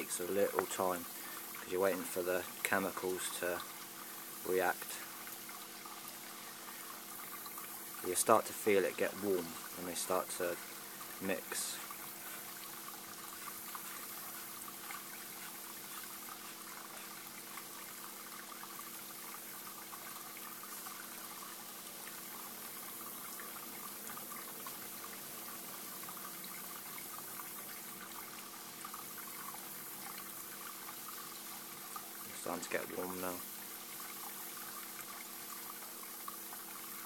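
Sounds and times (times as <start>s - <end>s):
faint steady hum: 0.0s - 37.0s
trickling water: 0.0s - 37.0s.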